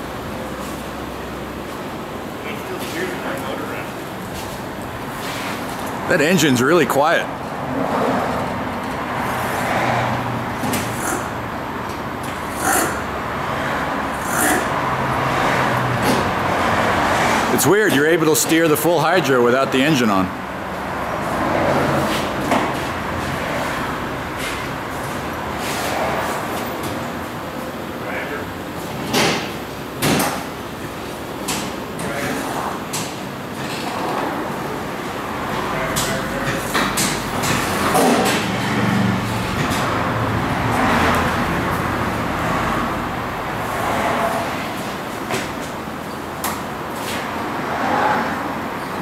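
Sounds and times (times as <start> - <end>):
large tires rolling on concrete: 0.1 - 27.4, 30.7 - 49.0.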